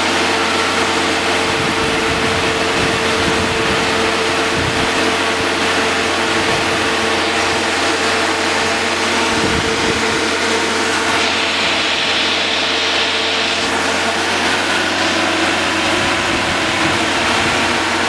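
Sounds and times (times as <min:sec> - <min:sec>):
engine running with whine: 0:00.0 - 0:18.0.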